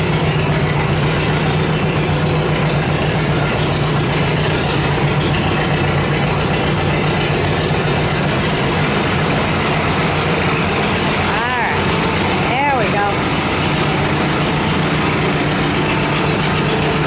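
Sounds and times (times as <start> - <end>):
garden tractor engine running: 0.0 - 17.0.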